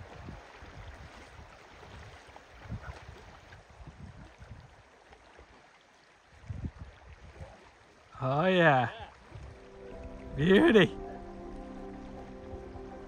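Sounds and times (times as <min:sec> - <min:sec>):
river flowing: 0:00.0 - 0:03.8, 0:04.4 - 0:13.0.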